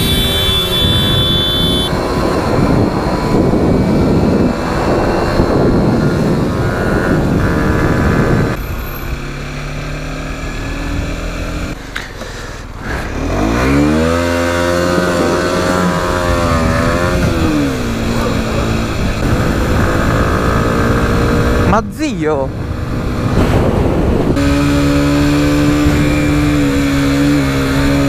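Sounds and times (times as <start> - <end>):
wind rushing on microphone: 0.0 - 9.2, 13.5 - 28.0
motorcycle engine: 0.0 - 28.0.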